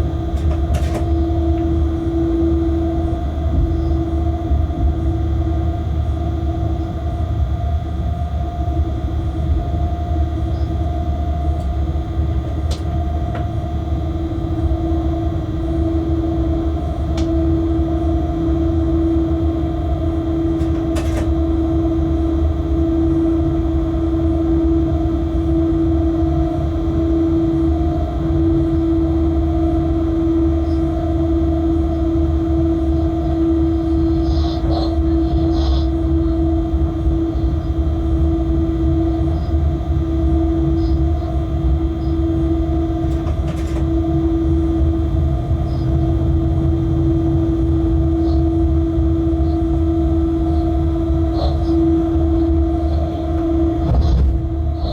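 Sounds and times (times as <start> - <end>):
locomotive cab rumble and hum: 0.0 - 54.9.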